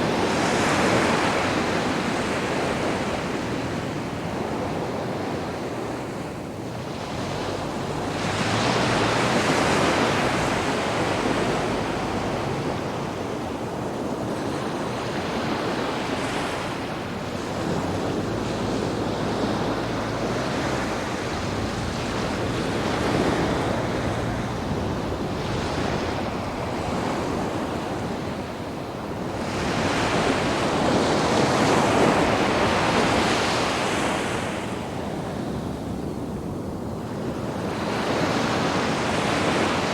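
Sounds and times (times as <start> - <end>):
waves washing onto beach: 0.0 - 39.9.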